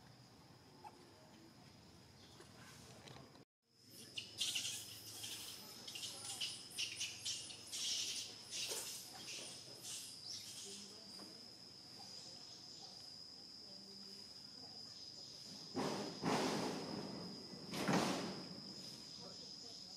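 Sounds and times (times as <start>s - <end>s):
insects calling: 0.0s - 19.9s.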